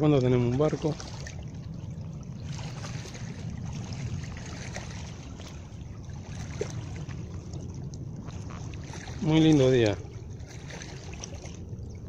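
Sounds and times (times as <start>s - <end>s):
small waves lapping: 0.0s - 12.0s
wind rumble on microphone: 0.0s - 12.0s.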